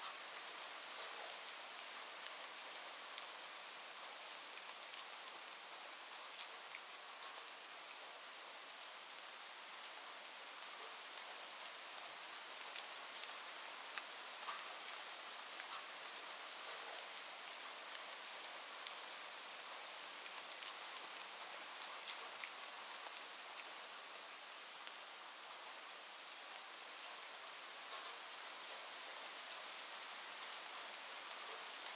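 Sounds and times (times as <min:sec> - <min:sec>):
rain hiss: 0:00.0 - 0:31.9.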